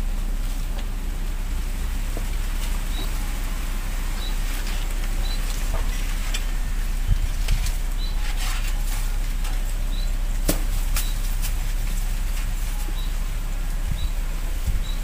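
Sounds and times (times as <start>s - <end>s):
hands rustling in soil: 0.0s - 15.0s.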